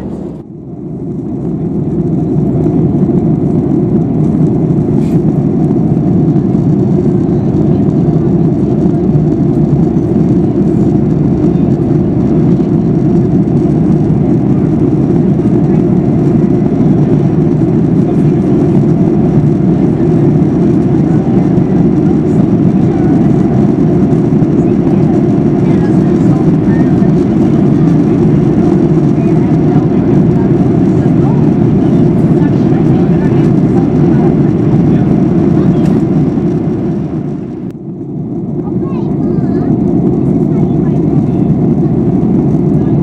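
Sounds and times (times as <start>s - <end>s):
airplane cabin noise: 0.0s - 43.0s.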